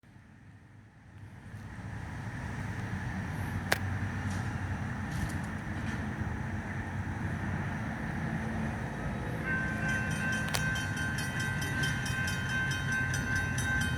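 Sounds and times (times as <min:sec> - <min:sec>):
diesel locomotives rumbling: 0:00.1 - 0:13.9.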